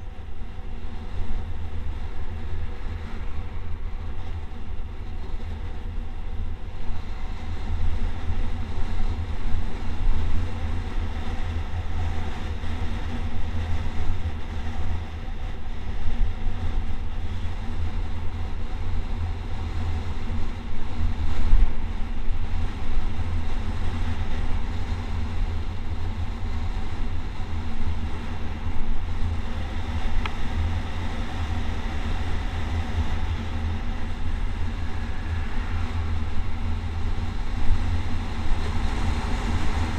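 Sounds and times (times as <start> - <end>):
rolling road noise: 0.0 - 39.9
wind buffeting microphone: 0.0 - 39.9.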